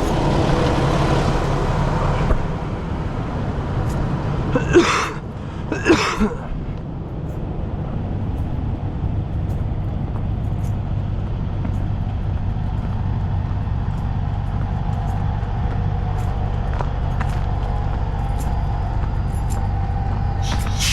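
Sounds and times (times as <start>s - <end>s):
diesel truck engine humming: 0.0s - 20.9s.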